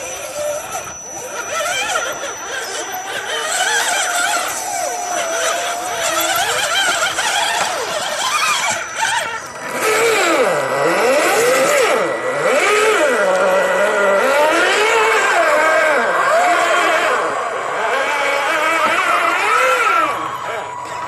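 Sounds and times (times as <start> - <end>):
electric motors whining: 0.0 - 21.0.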